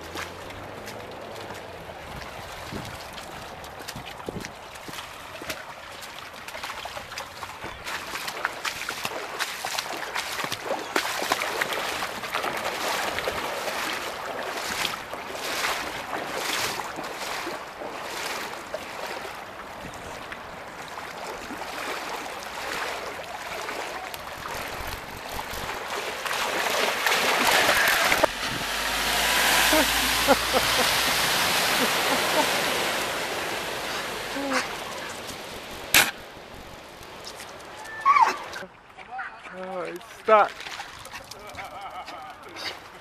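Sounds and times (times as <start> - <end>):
floodwater rushing and splashing: 0.0 - 43.0.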